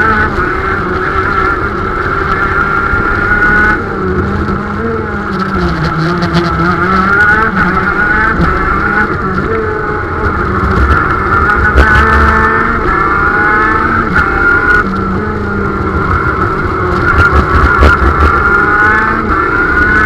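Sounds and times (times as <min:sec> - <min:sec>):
kart engine running hard: 0:00.0 - 0:20.0.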